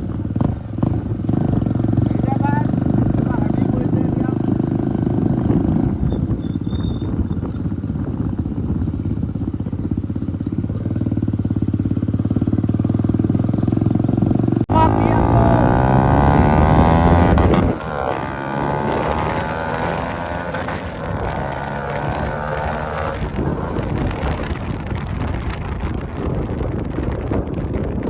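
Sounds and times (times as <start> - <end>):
loud motorcycle engine running: 0.0 - 28.0
motorcycle engine revving: 0.0 - 28.0.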